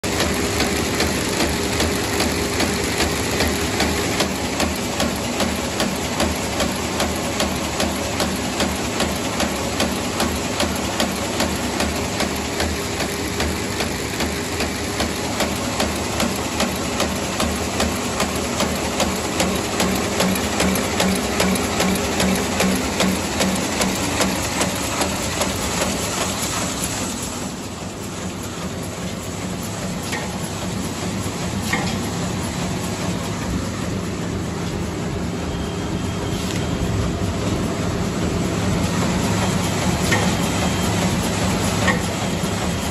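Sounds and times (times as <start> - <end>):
machine clattering: 0.0 - 34.8, 37.2 - 42.9.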